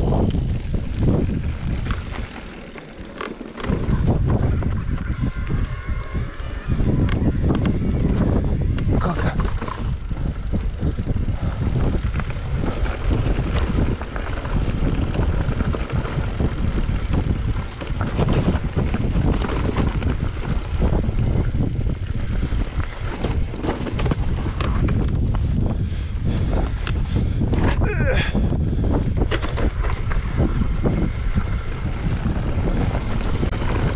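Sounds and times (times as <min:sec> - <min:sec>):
bike tyres knocking and rattling: 0:00.0 - 0:33.9
wind rumble on microphone: 0:00.0 - 0:33.9.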